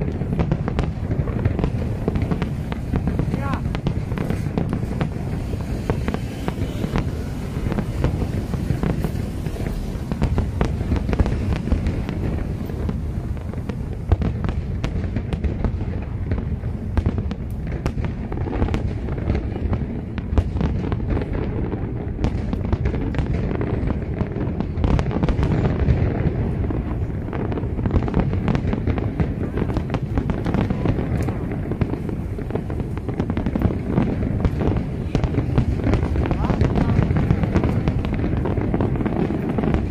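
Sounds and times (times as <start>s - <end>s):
fireworks booming: 0.0s - 39.9s
fireworks cracking and crackling: 0.0s - 39.9s.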